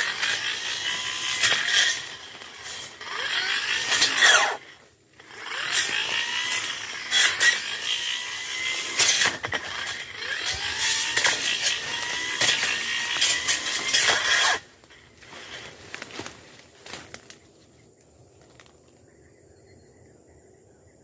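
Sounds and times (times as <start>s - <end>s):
brush cutter revving: 0.0s - 17.3s
blade striking stems: 0.0s - 17.4s.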